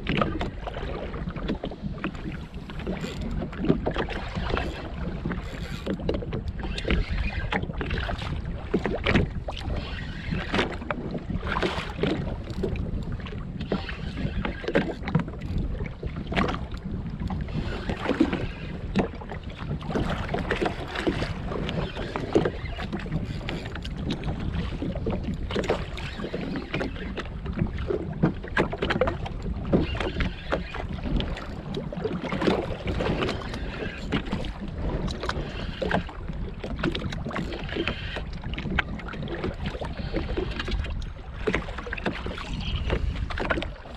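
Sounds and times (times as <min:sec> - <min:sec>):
waves slapping against hull: 0:00.0 - 0:43.9
wind buffeting microphone: 0:00.0 - 0:43.9.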